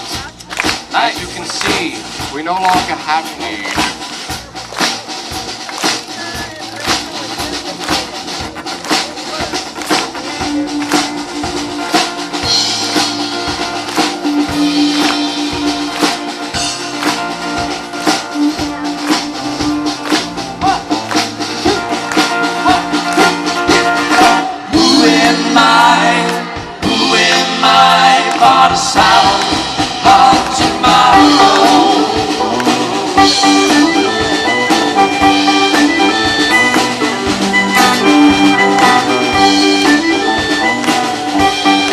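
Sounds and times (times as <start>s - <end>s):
drum kit beat: 0.0s - 41.9s
live band playing: 0.0s - 41.9s.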